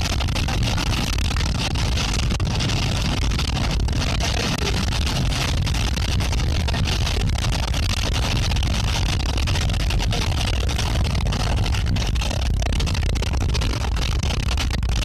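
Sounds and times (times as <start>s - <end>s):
rainstorm rushing: 0.0s - 14.6s
deep rumble: 0.0s - 15.0s.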